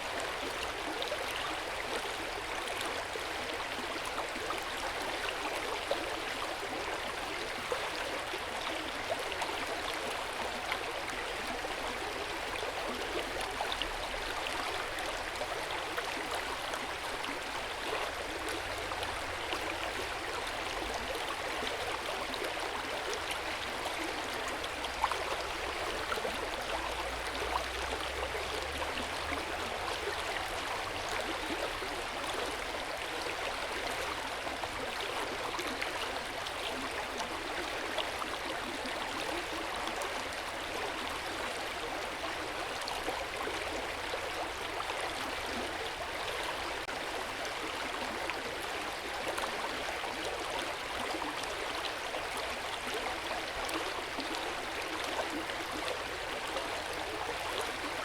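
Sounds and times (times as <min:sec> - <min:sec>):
hot spring water pouring and splashing: 0:00.0 - 0:58.0.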